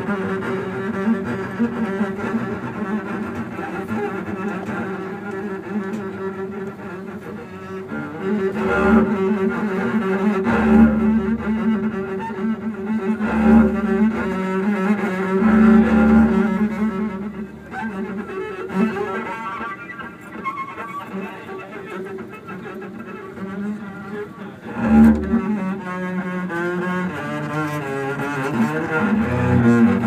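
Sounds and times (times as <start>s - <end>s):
bowed double bass: 0.0s - 30.0s.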